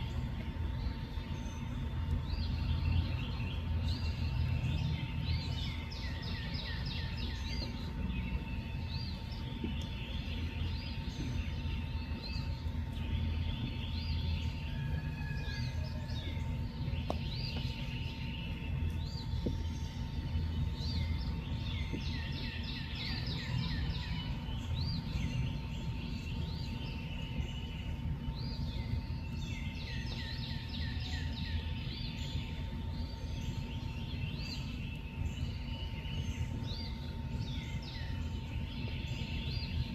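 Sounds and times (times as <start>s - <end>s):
faint steady whine: 0.0s - 39.9s
steady low rumble: 0.0s - 39.9s.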